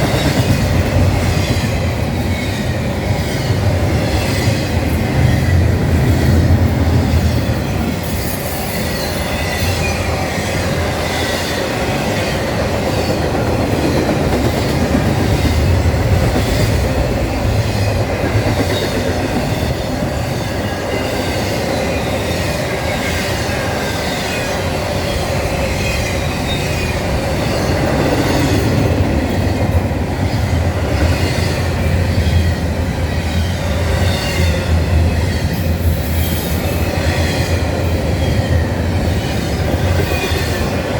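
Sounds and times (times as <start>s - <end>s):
train wheels clattering over rail: 0.0s - 40.9s
wheels squealing on rail: 7.1s - 29.6s, 30.2s - 40.9s.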